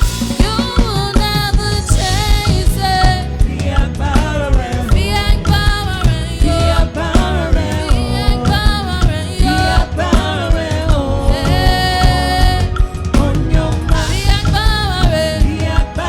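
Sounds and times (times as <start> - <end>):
band with bass and drums: 0.0 - 16.0
voices singing: 0.0 - 16.0.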